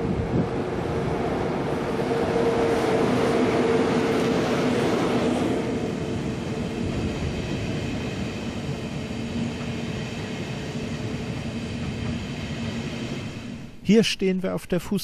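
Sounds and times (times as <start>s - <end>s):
high-speed train running past: 0.0s - 14.6s.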